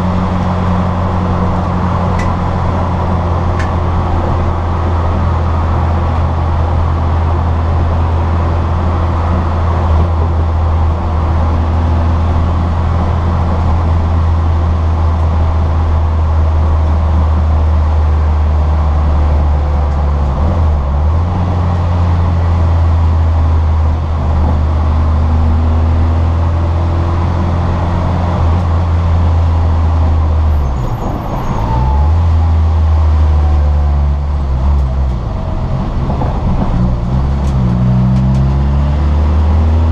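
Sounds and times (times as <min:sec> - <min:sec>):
car engine at full throttle: 0:00.0 - 0:39.9
road noise: 0:00.0 - 0:39.9.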